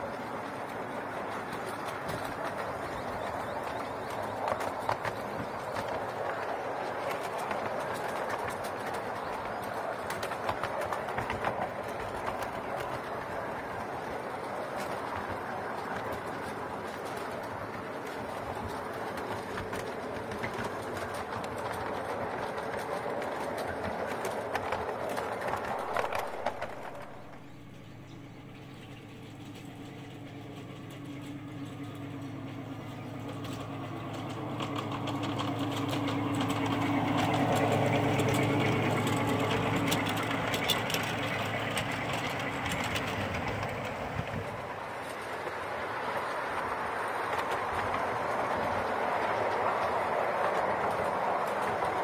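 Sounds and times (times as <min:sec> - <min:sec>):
miniature train wheels clicking: 0:00.0 - 0:52.0
train low drone: 0:00.0 - 0:52.0.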